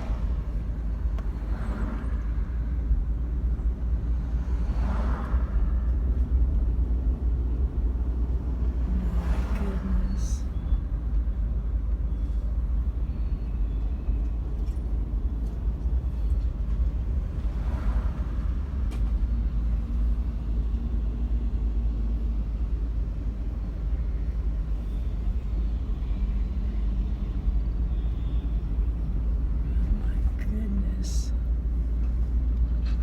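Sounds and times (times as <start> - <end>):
car interior road and engine noise: 0.0 - 33.0.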